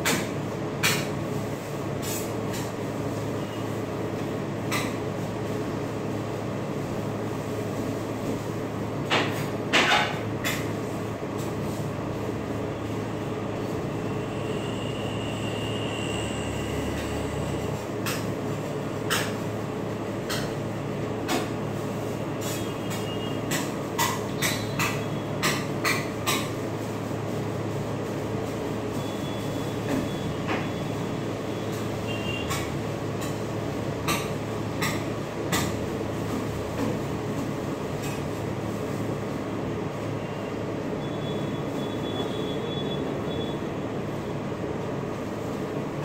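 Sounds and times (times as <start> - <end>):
refrigeration unit humming: 0.0 - 46.0.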